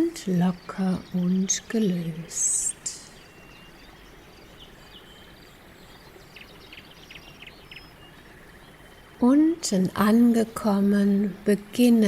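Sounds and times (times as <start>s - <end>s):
faint birdsong chirps: 0.0s - 12.0s
low steady hiss: 0.0s - 12.0s.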